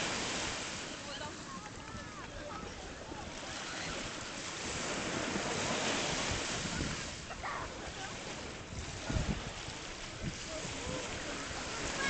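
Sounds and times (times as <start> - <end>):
sea waves washing: 0.0 - 12.0
wind on microphone: 0.0 - 12.0.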